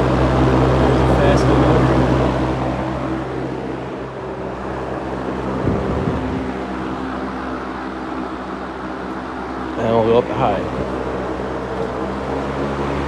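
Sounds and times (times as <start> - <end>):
box fan running: 0.0 - 13.0.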